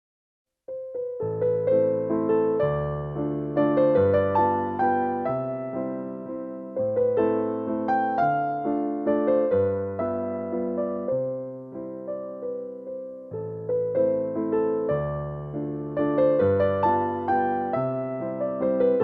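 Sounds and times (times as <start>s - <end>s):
gentle electric piano music: 0.7s - 19.0s.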